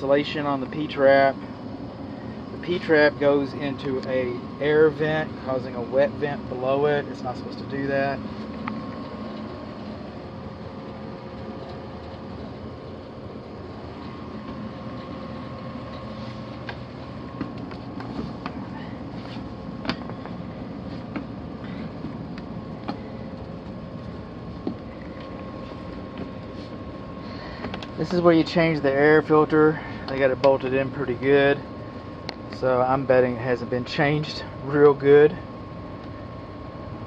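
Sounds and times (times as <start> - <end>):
air handler mechanical hum: 0.0 - 37.0.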